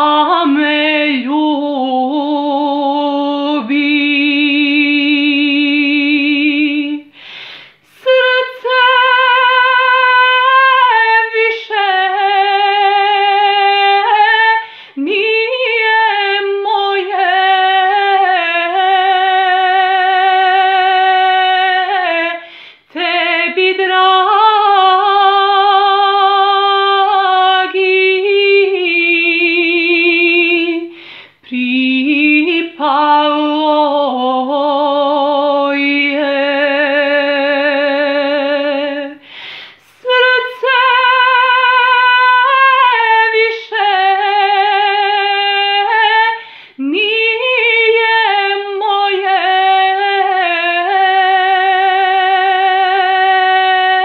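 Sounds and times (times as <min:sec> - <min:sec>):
woman singing unaccompanied: 0:00.0 - 0:07.2, 0:07.8 - 0:54.0.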